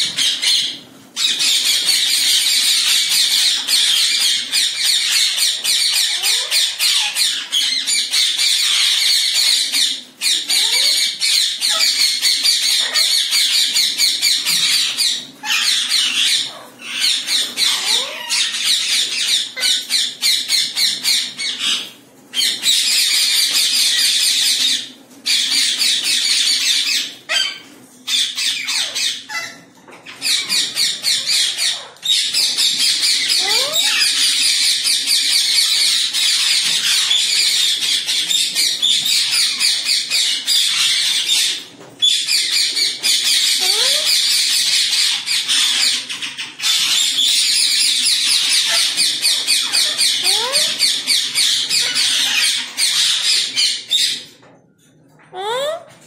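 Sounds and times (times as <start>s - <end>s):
parakeets squawking: 0.0s - 54.6s, 55.2s - 56.0s.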